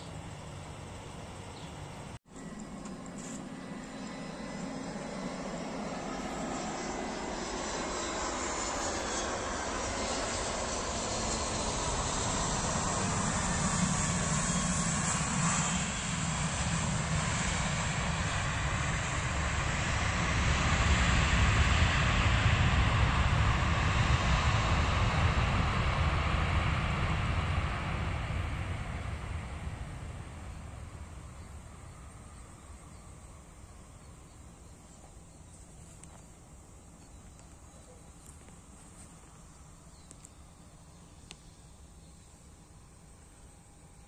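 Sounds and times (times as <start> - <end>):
jet engines roaring: 0.0 - 40.3.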